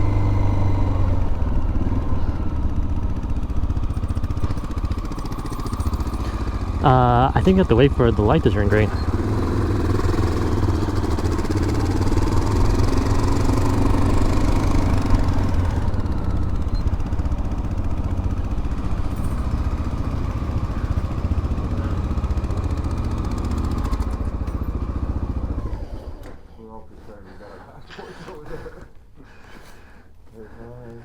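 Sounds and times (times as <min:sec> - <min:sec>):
motorcycle engine idling: 0:00.0 - 0:25.6.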